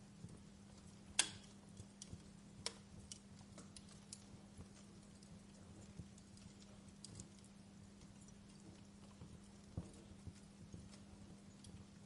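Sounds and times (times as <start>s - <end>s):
burning wood popping: 0.0s - 12.0s
campfire crackling: 0.0s - 12.0s
faint low hum: 0.0s - 12.0s.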